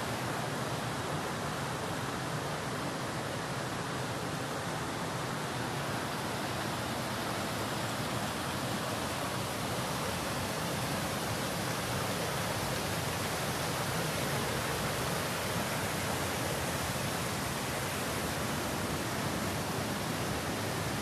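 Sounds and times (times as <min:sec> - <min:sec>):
river water rushing over rocks: 0:00.0 - 0:21.0.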